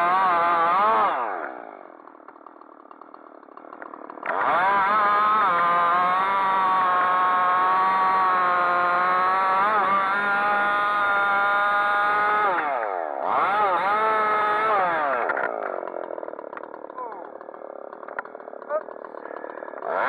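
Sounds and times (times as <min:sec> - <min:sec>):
chainsaw revving and cutting wood: 0:00.0 - 0:20.0.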